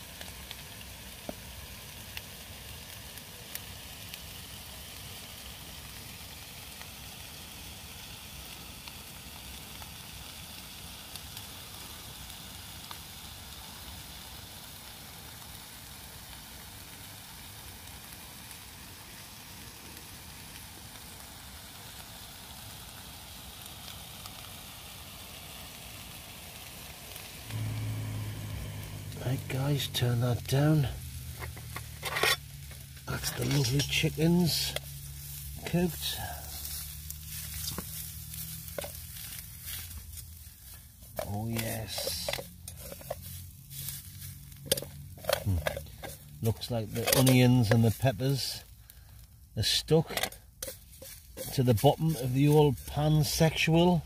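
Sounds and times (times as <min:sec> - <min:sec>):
small pops of frying: 0:00.0 - 0:53.4
chicken sizzling in a frying pan: 0:00.0 - 0:54.0.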